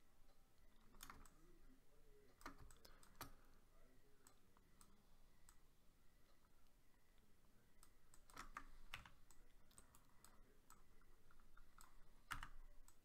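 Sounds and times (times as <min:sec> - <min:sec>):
computer mouse clicks: 0:00.2 - 0:01.6, 0:02.2 - 0:13.0.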